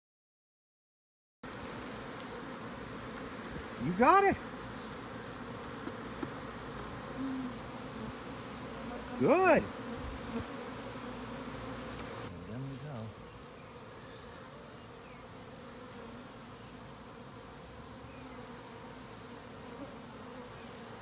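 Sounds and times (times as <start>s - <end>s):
bees buzzing: 1.4s - 21.0s.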